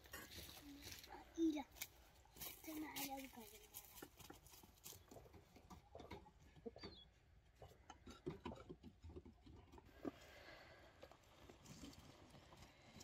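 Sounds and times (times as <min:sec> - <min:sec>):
quiet outdoor background: 0:00.0 - 0:13.0.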